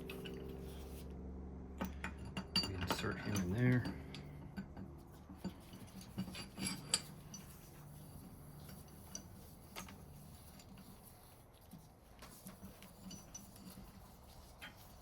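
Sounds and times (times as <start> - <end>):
metal clicks and clinks of parts: 1.8 - 11.1, 12.2 - 15.0.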